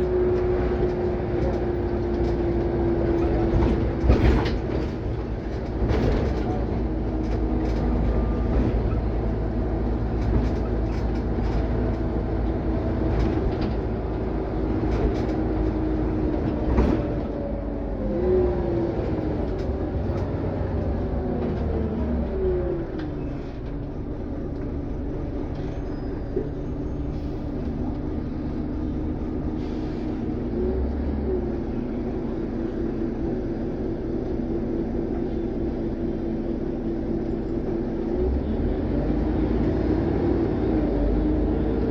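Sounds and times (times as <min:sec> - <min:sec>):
bus engine hum: 0:00.0 - 0:41.9.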